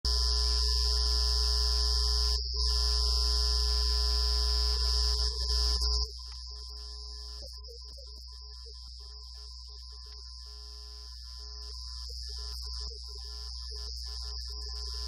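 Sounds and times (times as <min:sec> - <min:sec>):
electrical hum and buzz: 0:00.1 - 0:15.0.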